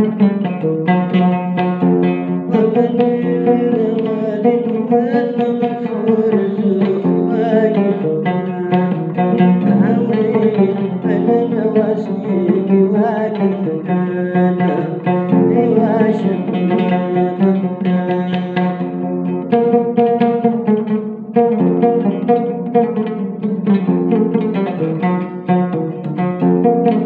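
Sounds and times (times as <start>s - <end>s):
plucked lute melody: 0.0s - 27.0s.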